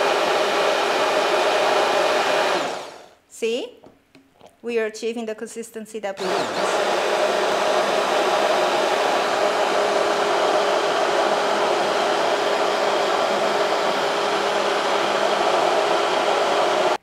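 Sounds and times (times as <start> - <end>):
immersion blender whirring: 0.0 - 3.2, 6.2 - 17.0.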